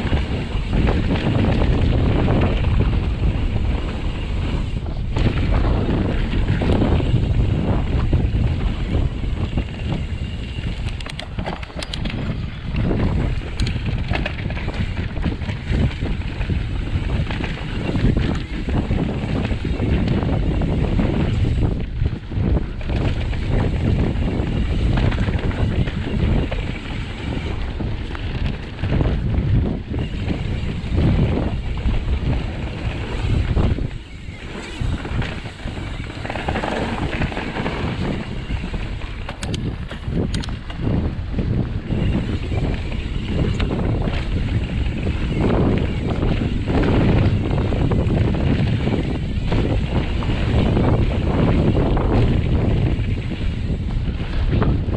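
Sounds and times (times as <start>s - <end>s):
bike clicks and rattles: 0.0s - 54.9s
wind buffeting microphone: 0.0s - 54.9s.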